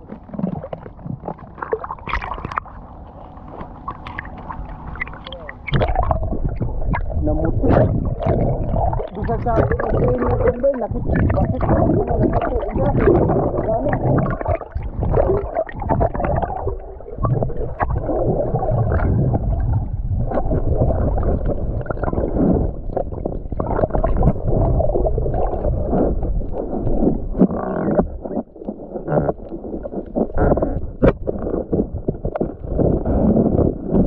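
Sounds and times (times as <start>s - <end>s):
knocks and splashes: 0.0s - 2.7s, 3.5s - 34.0s
water sloshing and gurgling: 0.0s - 34.0s.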